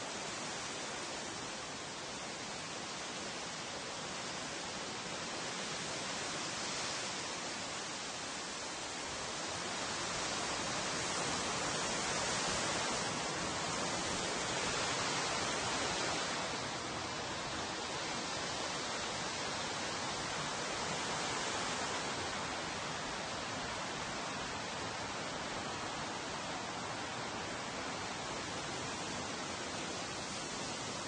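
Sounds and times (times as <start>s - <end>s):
wind rustling leaves: 0.0s - 31.0s.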